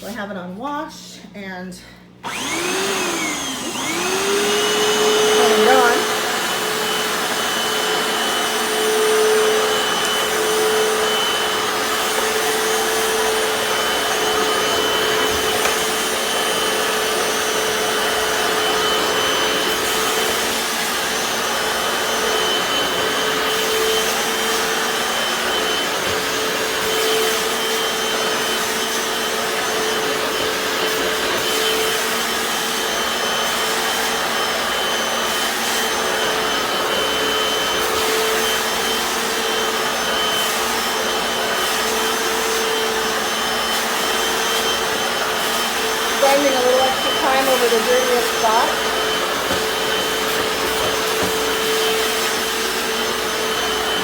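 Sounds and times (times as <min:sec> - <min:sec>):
floor cleaner motor whine: 0:02.1 - 0:54.0.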